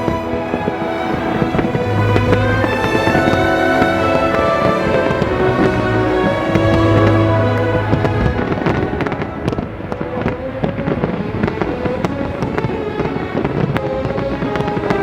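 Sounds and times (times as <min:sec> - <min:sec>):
classical background music: 0:00.0 - 0:15.0.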